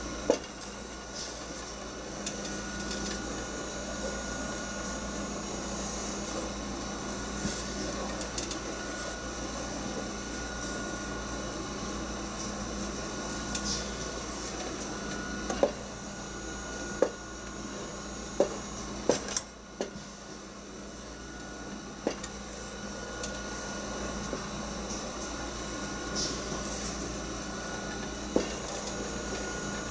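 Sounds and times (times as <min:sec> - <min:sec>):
steady background hum: 0:00.0 - 0:29.9.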